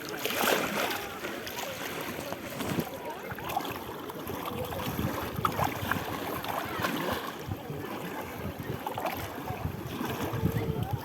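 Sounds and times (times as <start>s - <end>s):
water rushing: 0.0s - 11.0s
wind: 0.0s - 11.0s.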